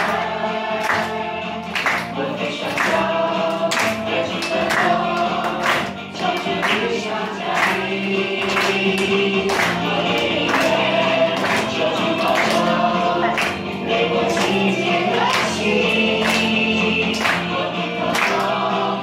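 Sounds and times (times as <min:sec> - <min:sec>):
group singing worship song: 0:00.0 - 0:19.0
music with steady beat: 0:00.0 - 0:19.0.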